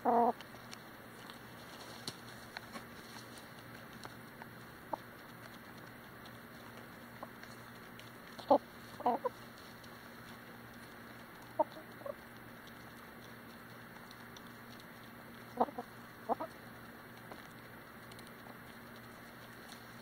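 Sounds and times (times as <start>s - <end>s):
chickens clucking: 0.0s - 0.6s, 1.3s - 20.0s
beaks pecking at dirt: 0.0s - 20.0s.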